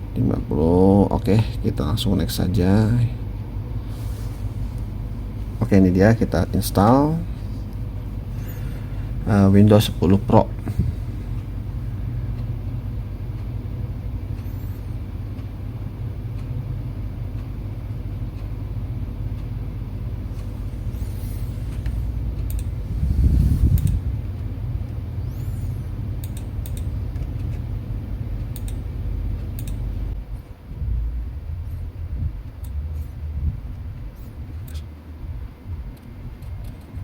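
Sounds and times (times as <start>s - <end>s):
low background rumble: 0.0s - 37.0s.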